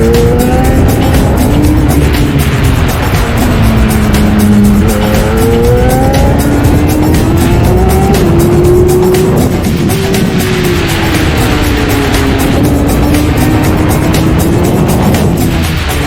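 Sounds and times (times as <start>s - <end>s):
motorcycle engine revving: 0.0s - 16.0s
music playing: 0.0s - 16.0s.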